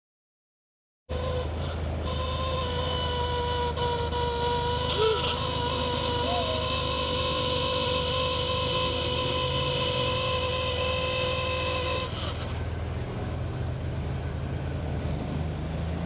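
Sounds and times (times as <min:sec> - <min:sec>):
steady high-pitched whine: 0:01.1 - 0:15.0
car engines driving slowly past: 0:01.1 - 0:16.0.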